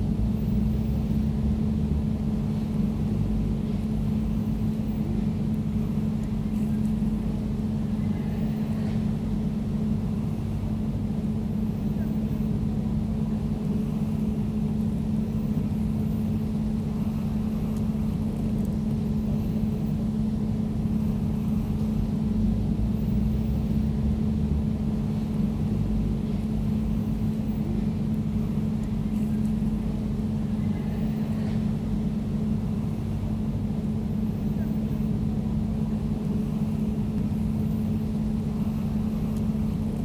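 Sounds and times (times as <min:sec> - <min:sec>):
air conditioner droning: 0:00.0 - 0:40.0.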